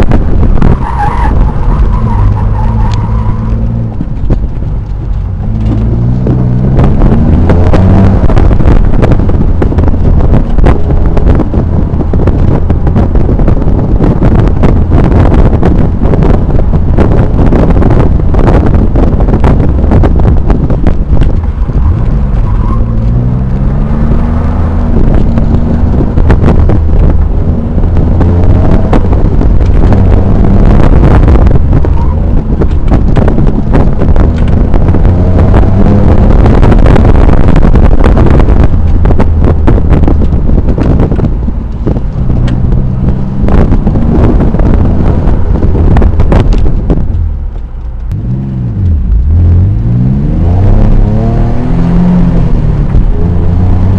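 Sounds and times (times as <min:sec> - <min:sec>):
wind buffeting on microphone: 0:00.0 - 0:53.9
car engine revving hard: 0:00.2 - 0:53.9.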